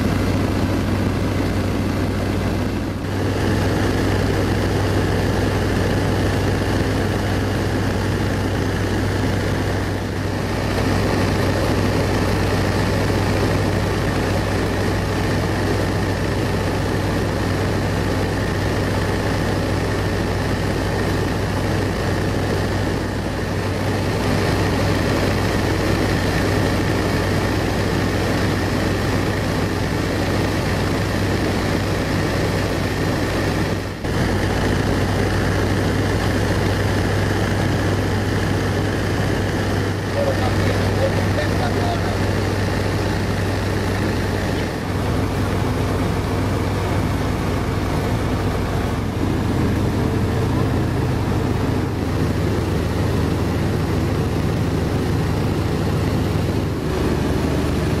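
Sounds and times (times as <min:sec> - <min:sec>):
propeller plane engine drone: 0:00.0 - 0:58.0.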